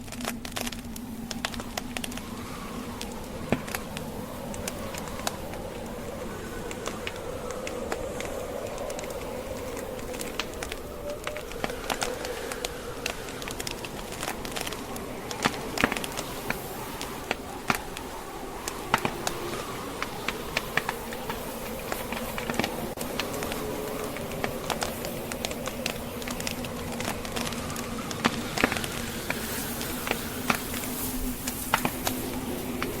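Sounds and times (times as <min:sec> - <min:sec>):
log fire crackling and popping: 0:00.0 - 0:33.0
snowstorm wind: 0:00.0 - 0:33.0.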